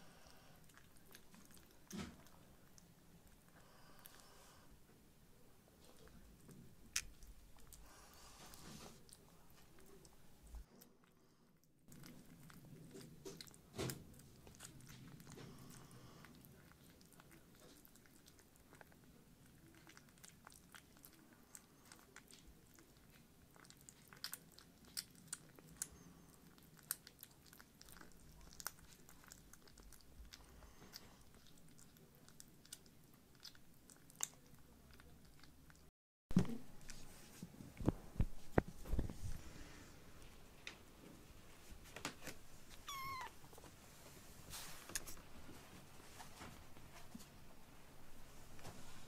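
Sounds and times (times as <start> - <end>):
kittens chewing: 0.0 - 49.0.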